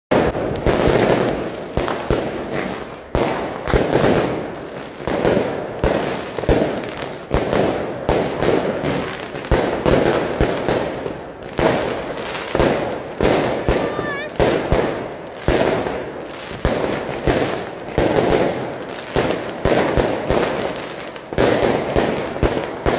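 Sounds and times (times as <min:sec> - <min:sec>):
fireworks banging and crackling: 0:00.1 - 0:22.9.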